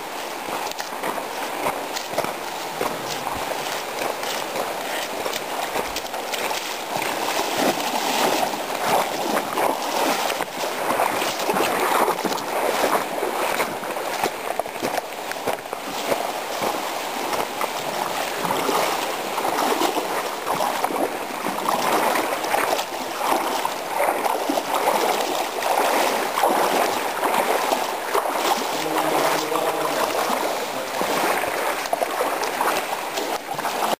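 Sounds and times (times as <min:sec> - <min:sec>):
creek water rushing and splashing: 0:00.0 - 0:34.0.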